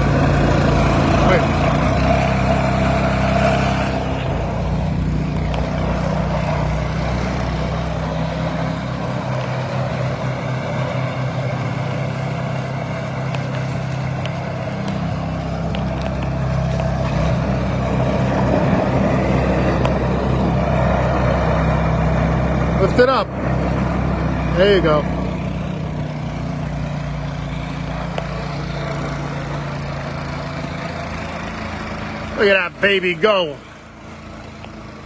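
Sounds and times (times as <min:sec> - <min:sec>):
snowblower engine running: 0:00.0 - 0:35.0.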